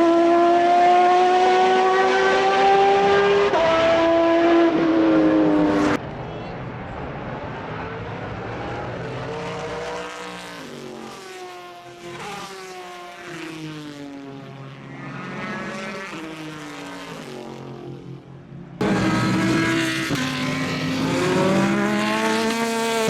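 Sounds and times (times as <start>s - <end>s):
distant race car engines: 0.0s - 23.0s.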